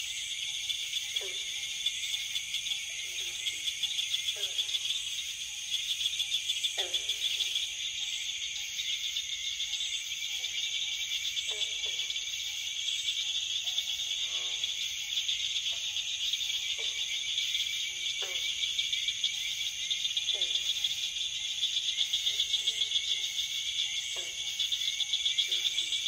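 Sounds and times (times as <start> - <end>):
insect chorus: 0.0 - 26.0.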